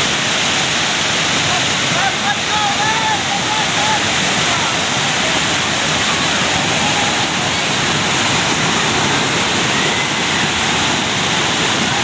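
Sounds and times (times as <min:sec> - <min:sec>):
flooded river rushing: 0:00.0 - 0:12.0.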